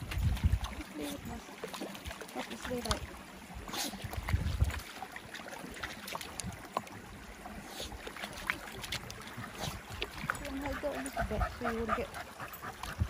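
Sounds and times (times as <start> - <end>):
river water sloshing over stones: 0.0 - 13.0.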